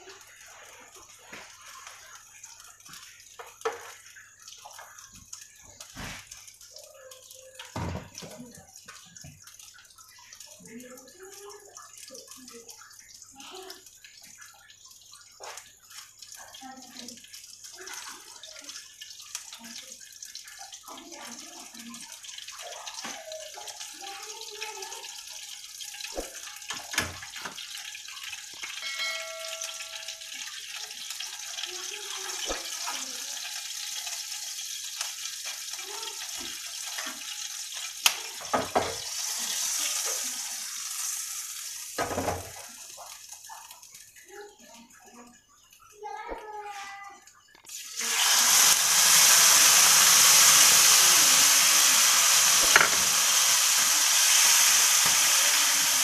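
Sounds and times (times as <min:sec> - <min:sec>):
oil sizzling in a frying pan: 0:00.0 - 0:56.0.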